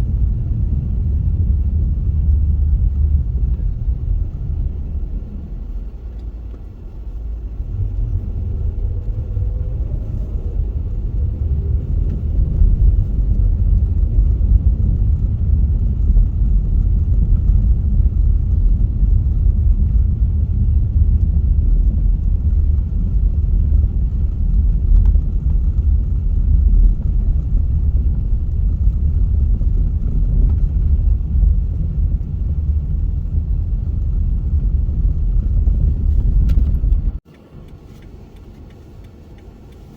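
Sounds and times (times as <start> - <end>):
faint rising whine: 0.0 - 37.7
car engine and road noise: 0.0 - 39.9.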